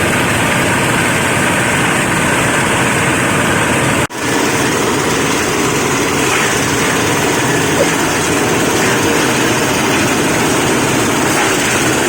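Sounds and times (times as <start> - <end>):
grinding machine running: 0.0 - 12.0.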